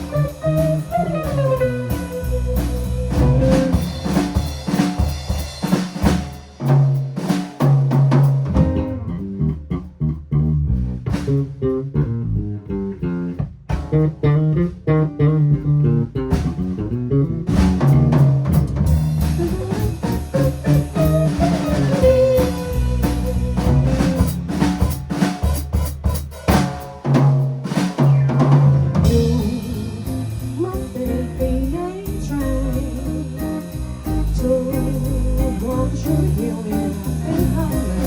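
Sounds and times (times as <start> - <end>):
instrumental rock band: 0.0 - 10.2, 11.1 - 12.0, 12.9 - 38.0.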